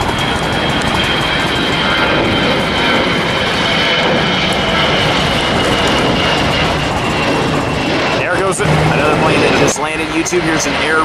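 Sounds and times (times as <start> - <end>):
jet engines roaring with whine: 0.0 - 11.0.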